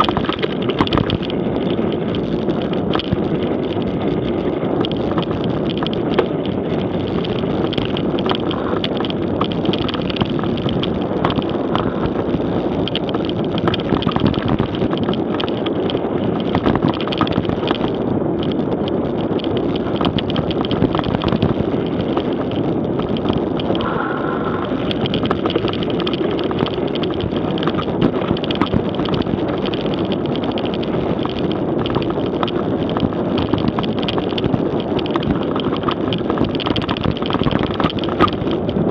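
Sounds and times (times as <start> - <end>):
bike rattling and clicking: 0.0 - 38.9
wind on microphone: 0.0 - 38.9.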